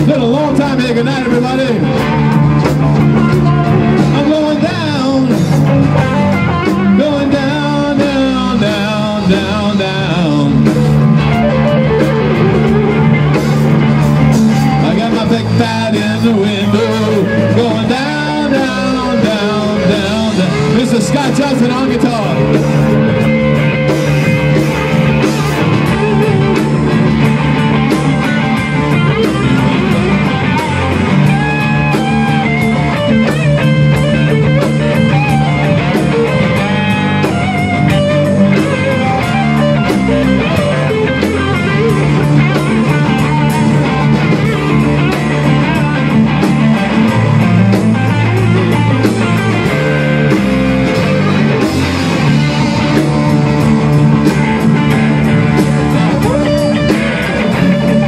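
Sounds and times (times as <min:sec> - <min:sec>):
drum kit: 0:00.0 - 0:58.0
lead electric guitar: 0:00.0 - 0:58.0
second electric guitar: 0:00.0 - 0:58.0.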